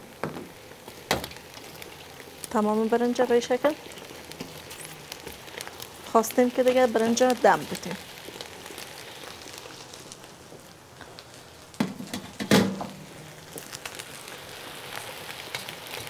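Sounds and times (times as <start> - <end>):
rice sizzling in a pot: 0.0 - 16.0.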